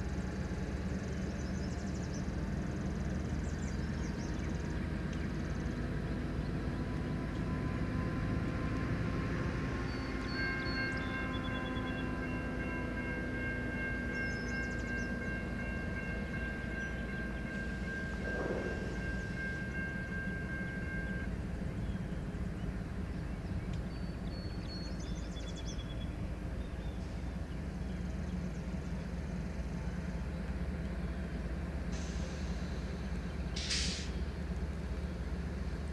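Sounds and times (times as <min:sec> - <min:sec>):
diesel locomotive idling: 0:00.0 - 0:35.9.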